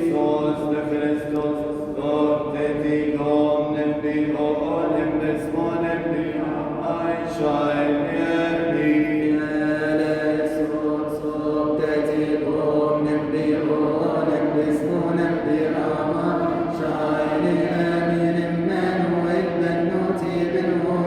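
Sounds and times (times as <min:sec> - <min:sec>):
congregation chanting in unison: 0:00.0 - 0:21.0.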